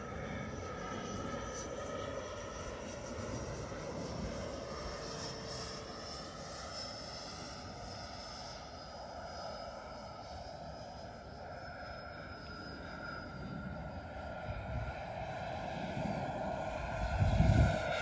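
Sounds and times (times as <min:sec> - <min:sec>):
model plane propellers buzzing: 0:00.0 - 0:18.0
simulated turboprop whine: 0:00.0 - 0:18.0.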